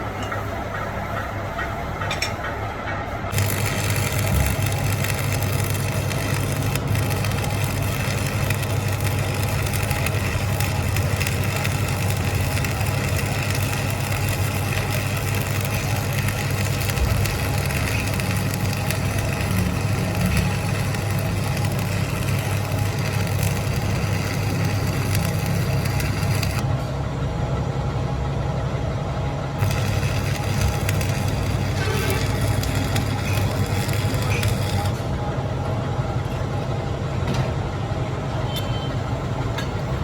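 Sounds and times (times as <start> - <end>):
workshop machinery running: 0.0 - 40.0.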